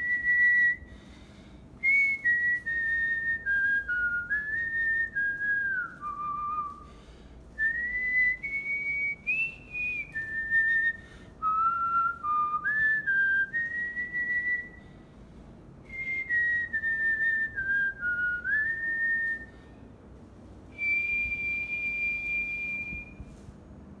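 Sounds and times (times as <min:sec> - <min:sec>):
man whistling a tune: 0:00.0 - 0:01.2, 0:01.8 - 0:06.9, 0:07.6 - 0:14.9, 0:15.8 - 0:19.7, 0:20.7 - 0:23.5.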